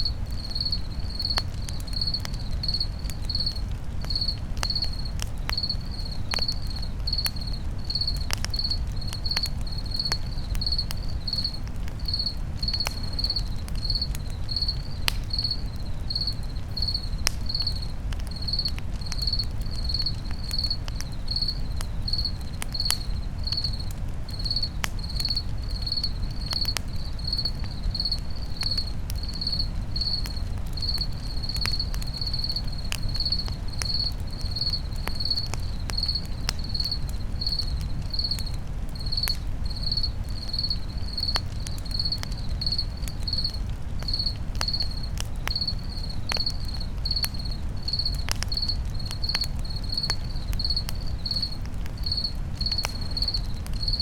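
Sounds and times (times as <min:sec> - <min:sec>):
campfire crackling and popping: 0:00.0 - 0:54.0
cricket chirping: 0:00.0 - 0:54.0
low rumble of flames: 0:00.0 - 0:54.0.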